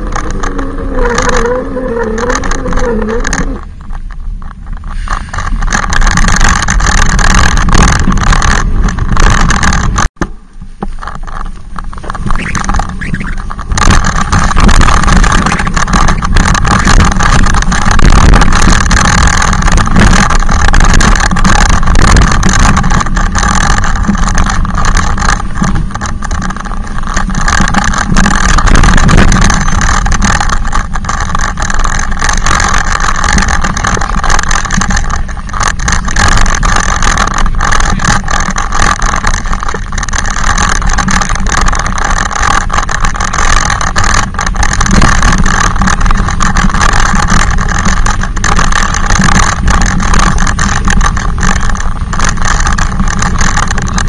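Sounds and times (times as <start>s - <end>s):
e-bike motor noise: 0.0s - 54.0s
low rumble: 0.0s - 54.0s.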